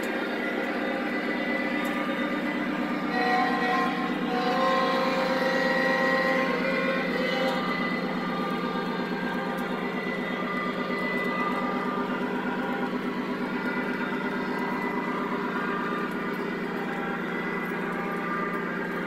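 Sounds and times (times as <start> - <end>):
model train diesel engine rumble: 0.0 - 19.0.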